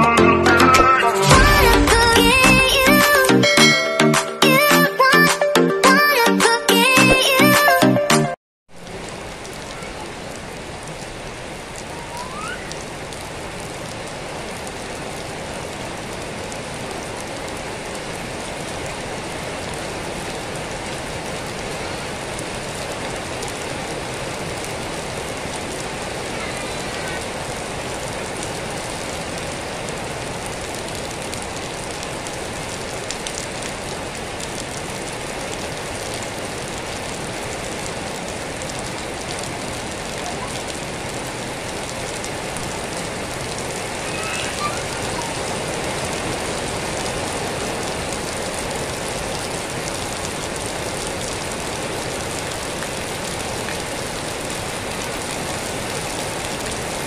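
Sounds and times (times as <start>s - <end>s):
steady rain on concrete and leaves: 0.0s - 3.9s, 8.7s - 57.0s.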